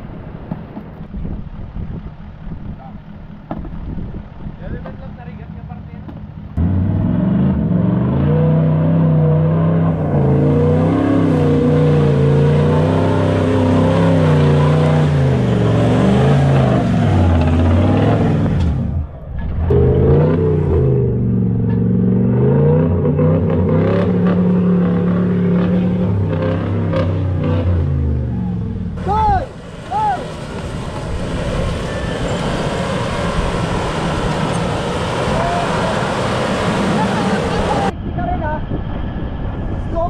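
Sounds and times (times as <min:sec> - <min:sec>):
truck engine revving: 0:01.4 - 0:38.0.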